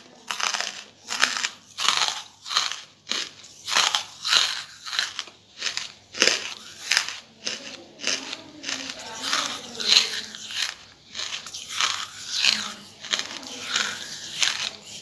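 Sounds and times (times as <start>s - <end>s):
charcoal being chewed crunching: 0.0s - 15.0s.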